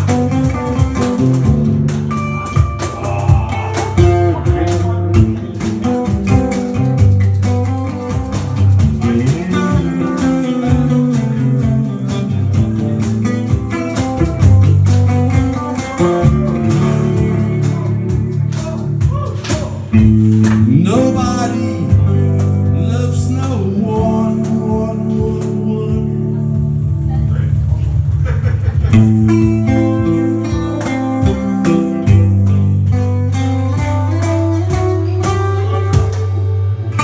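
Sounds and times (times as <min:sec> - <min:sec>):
blues electric guitar: 0:00.0 - 0:37.0.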